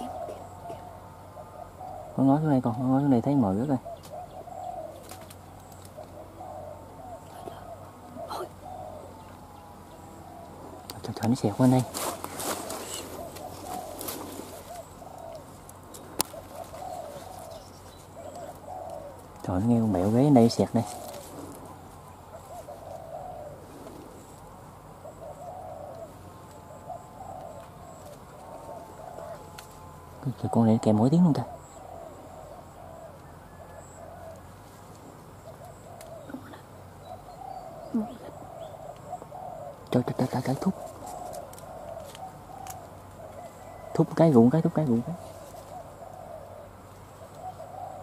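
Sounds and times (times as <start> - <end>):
doves cooing: 0.0 - 48.0.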